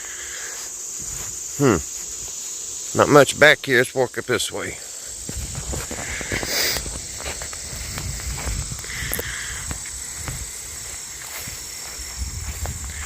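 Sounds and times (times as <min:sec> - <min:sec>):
footsteps outdoors: 0:00.0 - 0:13.0
insects droning: 0:00.0 - 0:13.0.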